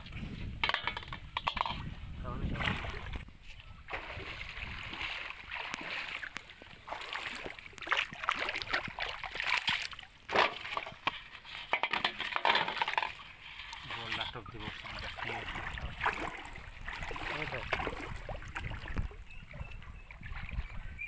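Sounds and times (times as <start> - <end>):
water sloshing and splashing: 0.6 - 21.0.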